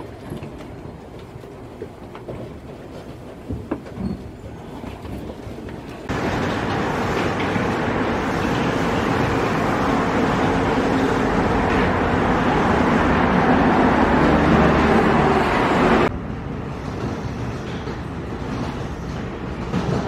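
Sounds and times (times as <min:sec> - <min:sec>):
distant traffic: 0:00.0 - 0:20.0
monorail train hum and rush: 0:00.0 - 0:20.0.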